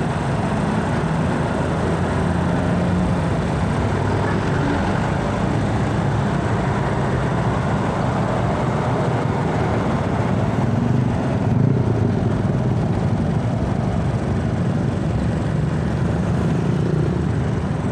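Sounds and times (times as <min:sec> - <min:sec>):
truck diesel engines rumbling: 0:00.0 - 0:17.9.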